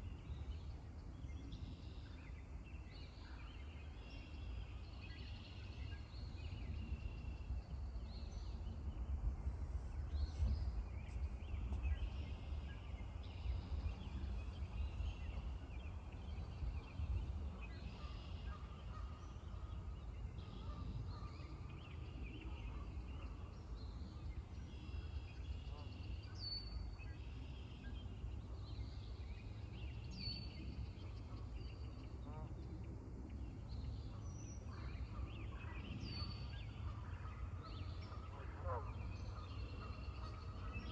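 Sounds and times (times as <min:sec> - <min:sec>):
steady low rumble: 0:00.0 - 0:40.7.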